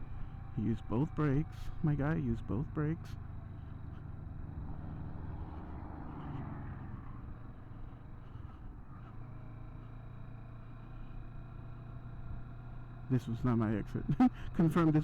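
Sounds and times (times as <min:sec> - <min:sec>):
motorcycle engine running: 0:00.0 - 0:06.4, 0:07.2 - 0:15.0
wind and road noise: 0:00.0 - 0:13.1.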